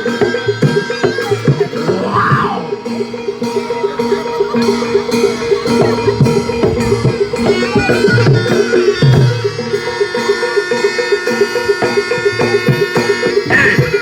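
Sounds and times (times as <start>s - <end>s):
drums beating: 0.0s - 14.0s
held high tones: 0.0s - 14.0s.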